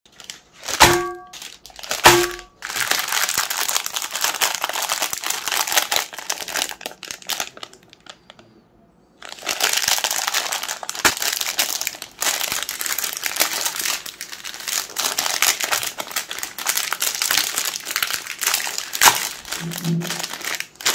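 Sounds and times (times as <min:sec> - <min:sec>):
plastic wrappers crinkling: 0:00.1 - 0:08.5, 0:09.2 - 0:20.9.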